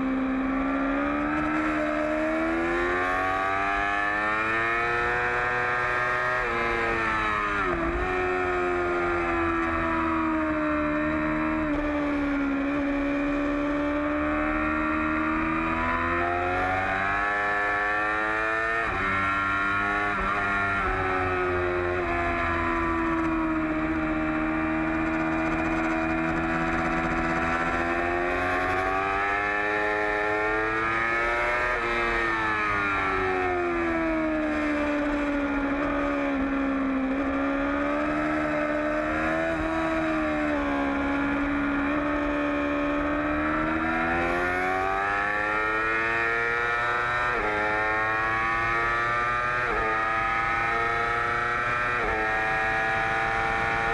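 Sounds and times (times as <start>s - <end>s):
motorcycle engine at high revs: 0.0s - 53.9s.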